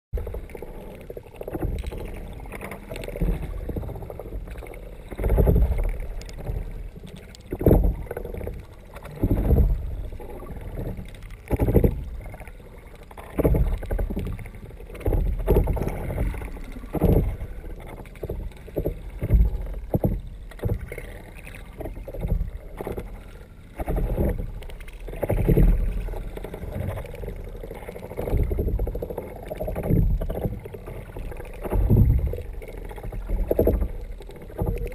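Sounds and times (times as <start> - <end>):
water sloshing against kayak hull: 0.2 - 34.9.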